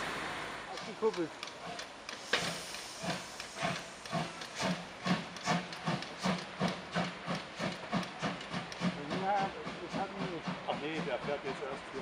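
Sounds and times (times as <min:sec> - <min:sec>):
steam hissing: 0:00.0 - 0:12.0
steam locomotive chuffing: 0:00.0 - 0:12.0.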